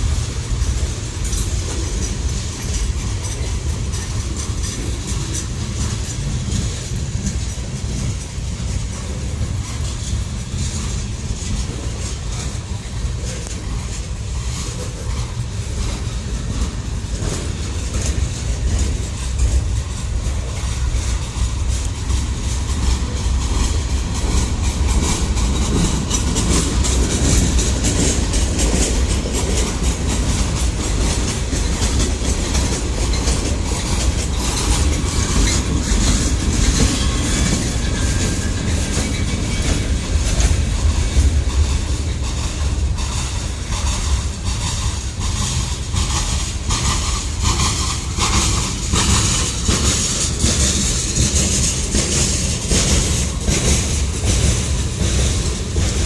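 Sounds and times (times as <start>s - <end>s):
train cars rumbling: 0.0s - 56.0s
wheels clicking over rail joints: 0.0s - 56.0s.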